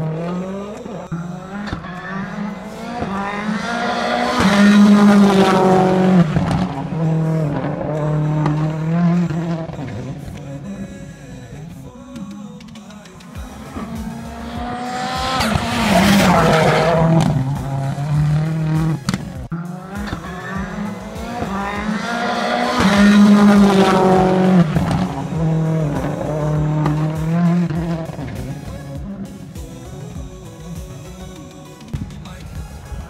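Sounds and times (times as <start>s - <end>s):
race cars passing at full throttle: 0.0s - 12.3s, 13.1s - 30.8s.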